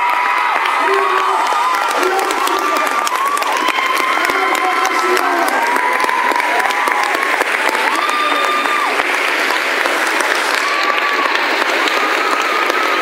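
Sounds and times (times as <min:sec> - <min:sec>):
audience applauding: 0:00.0 - 0:13.0
crowd calling out: 0:00.0 - 0:13.0.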